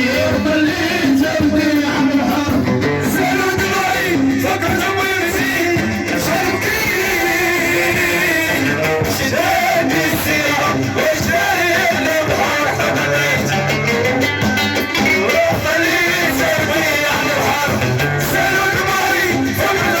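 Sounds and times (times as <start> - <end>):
person singing: 0.0 - 14.2, 15.0 - 20.0
band accompaniment: 0.0 - 20.0.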